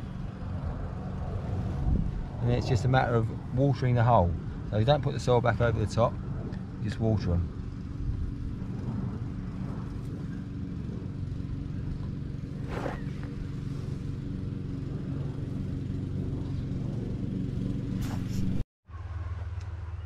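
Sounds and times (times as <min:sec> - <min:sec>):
low engine drone: 0:00.0 - 0:20.0
outdoor background noise: 0:00.0 - 0:20.0.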